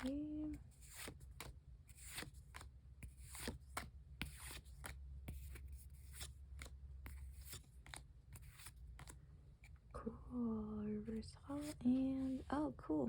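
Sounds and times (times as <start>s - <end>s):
trading cards handled: 0.0s - 9.9s, 11.1s - 12.5s.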